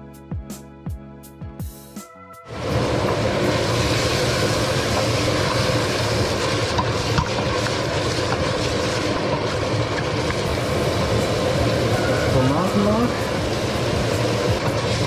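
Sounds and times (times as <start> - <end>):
sausages sizzling in oil: 2.5 - 15.0.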